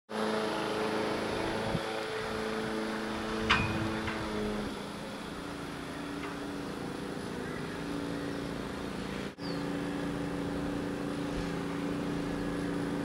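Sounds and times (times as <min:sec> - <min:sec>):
low engine drone: 0:00.1 - 0:13.0.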